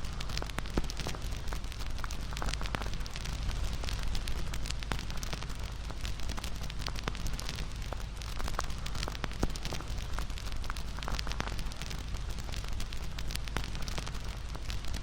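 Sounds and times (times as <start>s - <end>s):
campfire rumble: 0.0s - 15.0s
fire crackling and popping: 0.0s - 15.0s.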